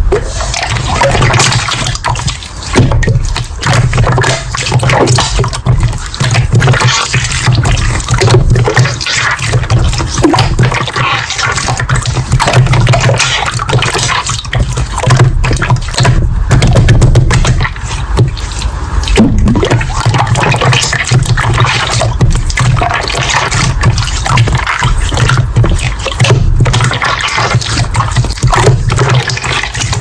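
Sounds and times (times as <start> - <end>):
slime squelching by hand: 0.0 - 30.0.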